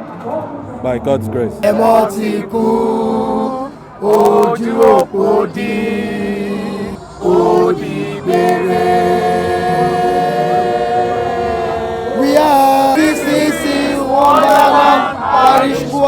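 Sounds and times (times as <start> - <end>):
church choir singing: 1.5 - 16.0.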